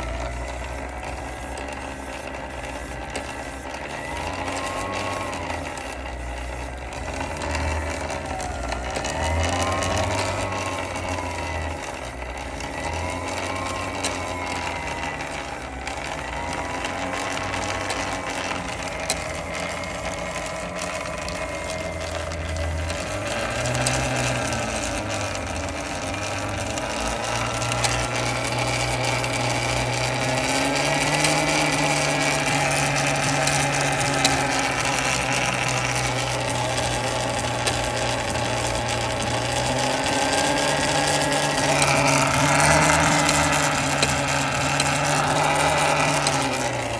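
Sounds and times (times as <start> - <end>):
electric motor whine: 0.0 - 46.9.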